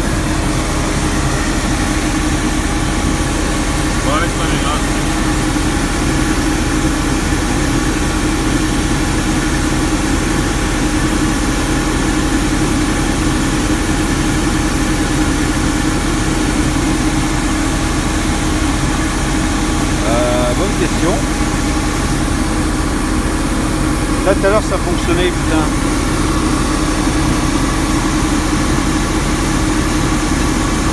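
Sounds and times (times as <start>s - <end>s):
street sweeper engine running: 0.0s - 30.9s.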